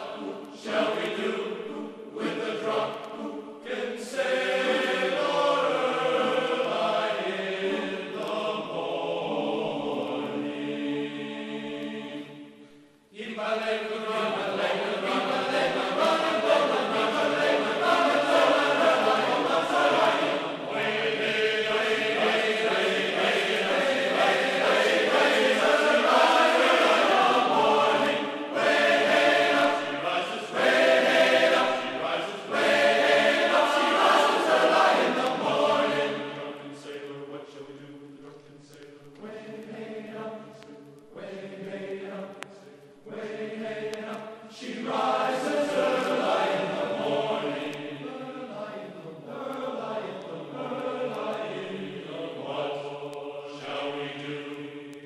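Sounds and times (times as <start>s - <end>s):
choral chanting: 0.0s - 55.0s.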